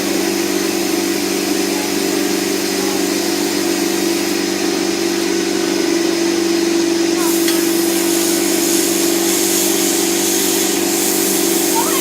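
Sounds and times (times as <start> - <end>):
small motor running: 0.0 - 12.0.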